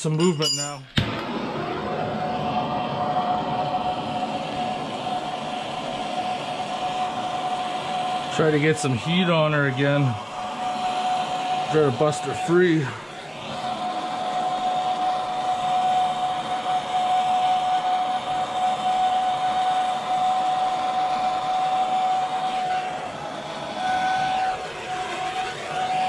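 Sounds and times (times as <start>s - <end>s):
gas torch hissing and whistling: 1.0s - 26.0s.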